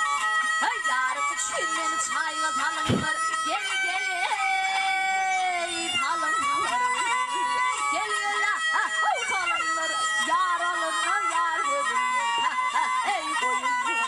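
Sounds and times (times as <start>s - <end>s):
bowed fiddle: 0.0s - 14.0s
plucked lute: 0.0s - 14.0s
woman singing: 0.4s - 14.0s.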